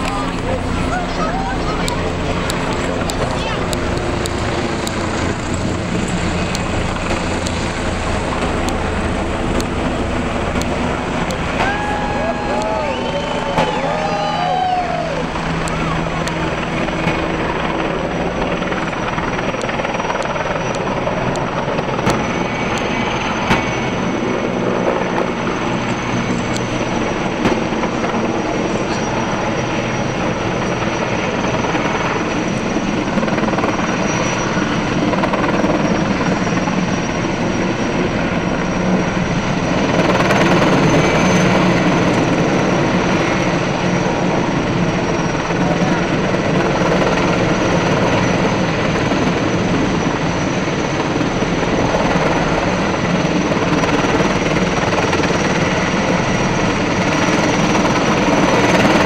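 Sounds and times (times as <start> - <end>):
helicopter rotor and turbine engines: 0.0 - 59.0.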